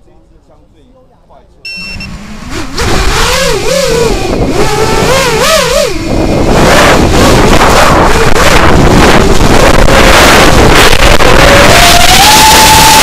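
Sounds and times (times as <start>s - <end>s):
wind noise: 2.5s - 13.0s.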